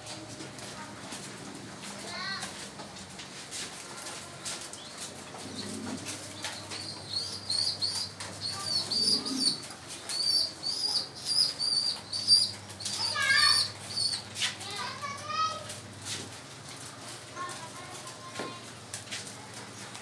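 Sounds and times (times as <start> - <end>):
pigeon wings flapping: 0.1 - 20.0.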